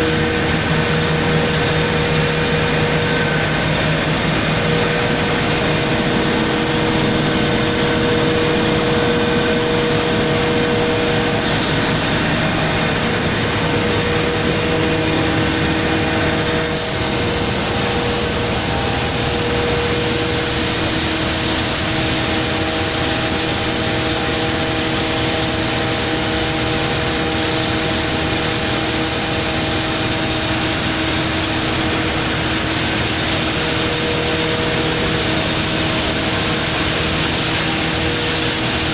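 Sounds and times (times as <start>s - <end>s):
machine and conveyors droning: 0.0s - 38.9s.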